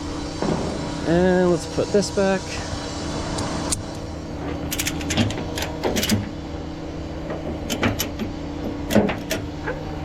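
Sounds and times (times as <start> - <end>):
engine hum: 0.0 - 10.0.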